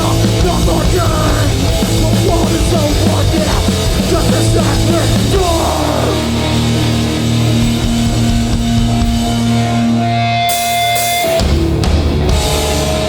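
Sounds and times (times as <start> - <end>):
punk band playing live: 0.0 - 13.0.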